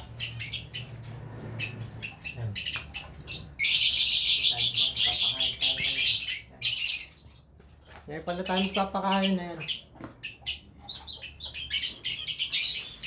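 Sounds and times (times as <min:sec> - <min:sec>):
caged birds chirping and squawking: 0:00.0 - 0:13.0.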